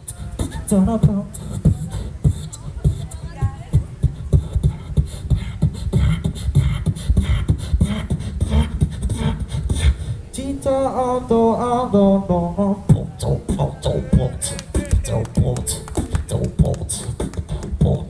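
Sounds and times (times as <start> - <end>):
beatboxing into a microphone: 0.0 - 18.0.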